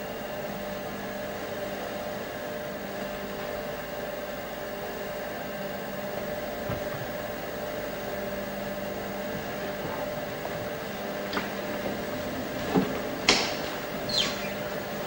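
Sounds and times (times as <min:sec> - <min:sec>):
machinery hum with hiss: 0:00.0 - 0:15.0.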